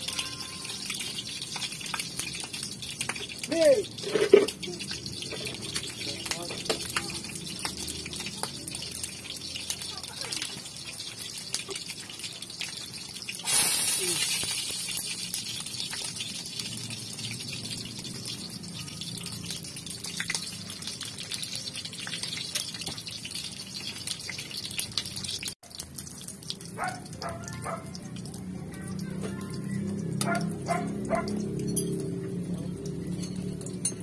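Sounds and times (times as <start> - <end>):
meat sizzling in a wok: 0.0 - 33.7.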